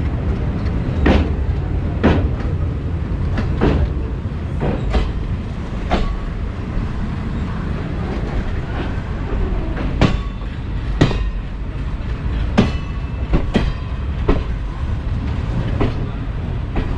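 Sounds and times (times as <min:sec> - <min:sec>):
wheels clacking over rail joints: 0:00.0 - 0:06.8, 0:07.9 - 0:16.9
train coach rumbling: 0:00.0 - 0:16.9.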